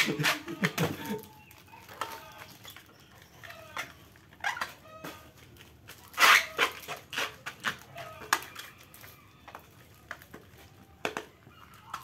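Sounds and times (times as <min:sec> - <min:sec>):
plastic bags and cups rustling: 0:00.0 - 0:12.0.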